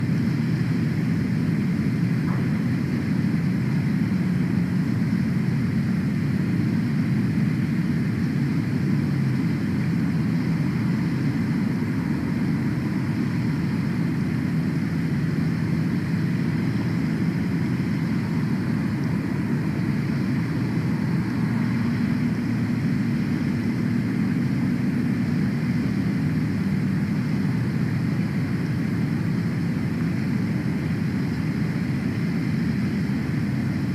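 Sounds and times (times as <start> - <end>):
low outdoor rumble: 0.0 - 33.9.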